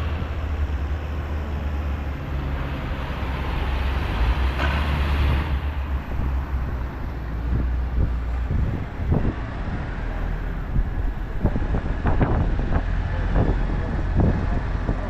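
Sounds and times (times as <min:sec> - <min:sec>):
tractor engines rumbling: 0:00.0 - 0:15.0
wind buffeting microphone: 0:00.0 - 0:15.0.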